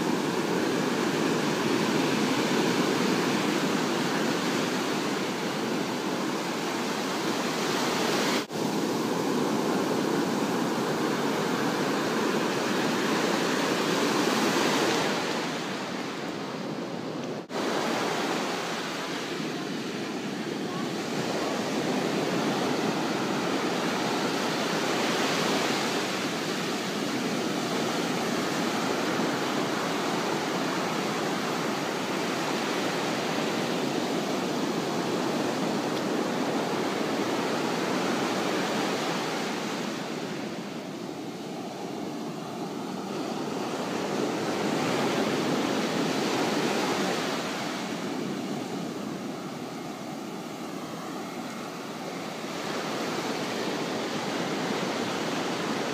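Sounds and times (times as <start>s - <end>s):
ocean surf breaking on beach: 0.0s - 55.9s.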